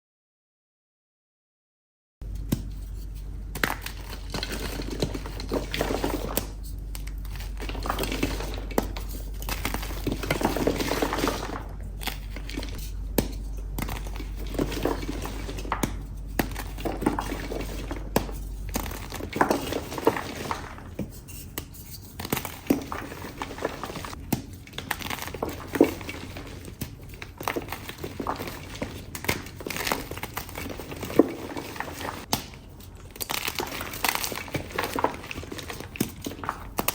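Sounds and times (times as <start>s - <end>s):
chalk being crushed: 2.3s - 36.9s.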